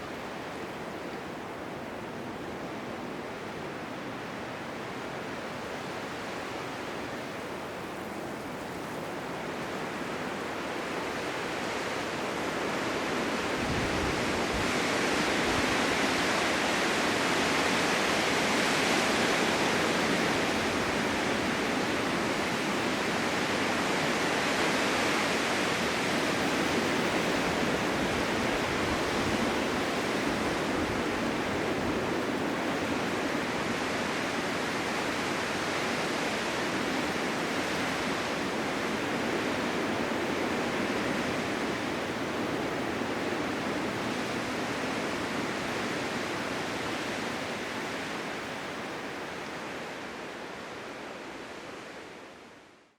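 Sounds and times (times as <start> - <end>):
blizzard wind rushing: 4.8 - 52.2.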